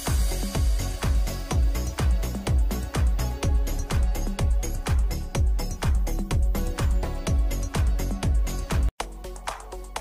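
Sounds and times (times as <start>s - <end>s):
electronic dance music: 0.0s - 10.0s
kick drum: 0.0s - 10.0s.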